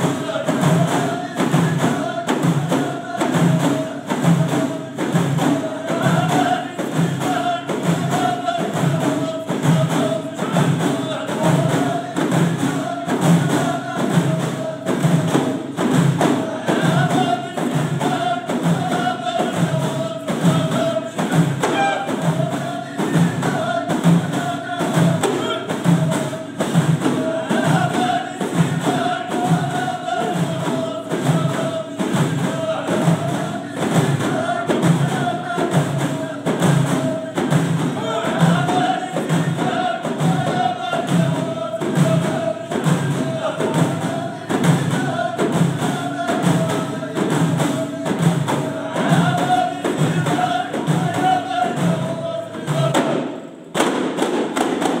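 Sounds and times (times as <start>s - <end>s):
frame drums beating: 0.0s - 55.0s
group singing a chant: 0.0s - 55.0s.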